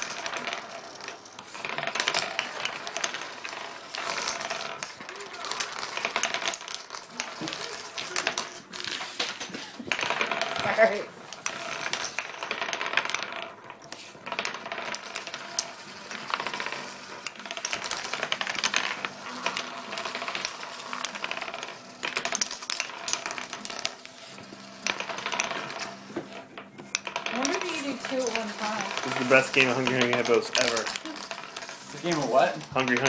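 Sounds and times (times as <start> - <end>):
wooden coins rattling on a table: 0.0 - 33.0.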